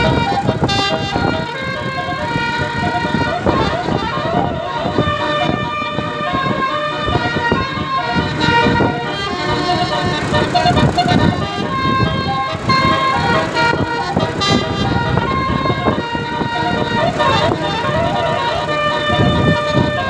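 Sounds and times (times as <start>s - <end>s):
musical bus horn melody: 0.0s - 20.0s.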